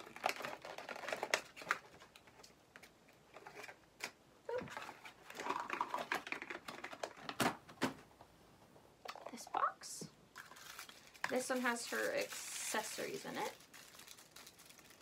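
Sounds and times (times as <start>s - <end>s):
packaging rustling: 0.0s - 8.0s, 10.4s - 15.0s.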